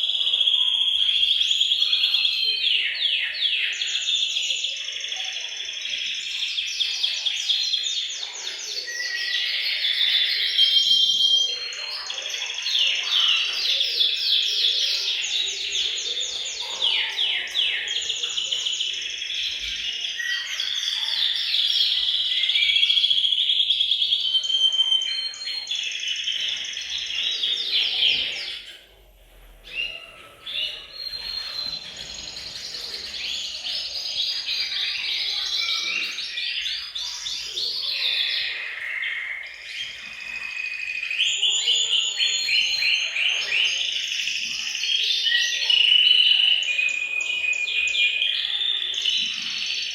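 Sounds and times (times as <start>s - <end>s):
canaries singing trills: 0.0s - 49.9s.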